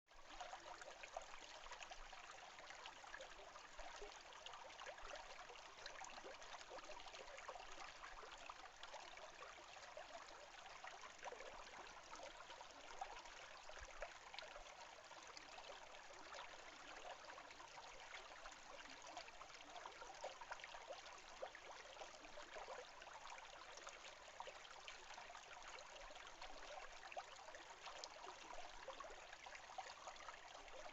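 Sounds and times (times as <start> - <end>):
small stream trickling: 0.1 - 30.9.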